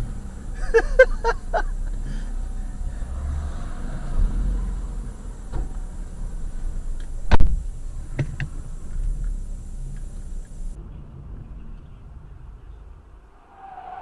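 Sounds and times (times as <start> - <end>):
car cabin low rumble: 0.0 - 13.4.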